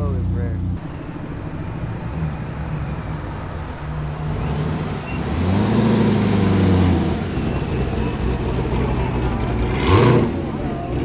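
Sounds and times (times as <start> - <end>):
car engine running: 0.1 - 11.0.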